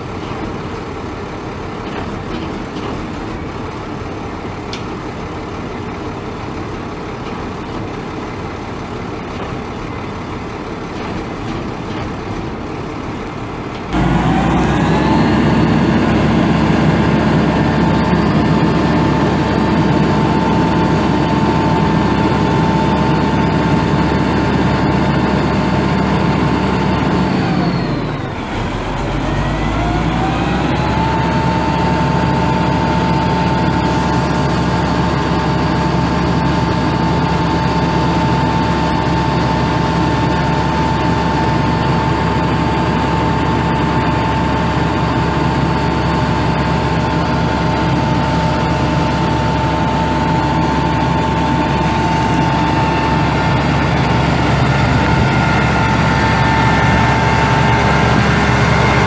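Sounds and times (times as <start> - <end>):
diesel engine idling: 0.0 - 59.0
steady engine whine: 0.0 - 59.0.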